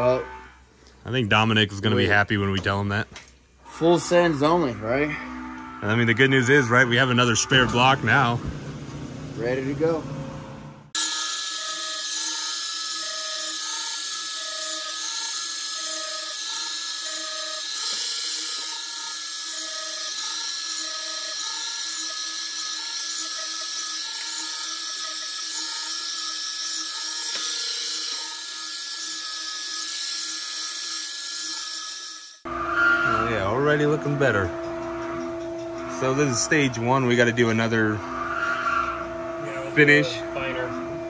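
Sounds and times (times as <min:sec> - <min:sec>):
belt polisher machine whine: 0:03.6 - 0:41.0.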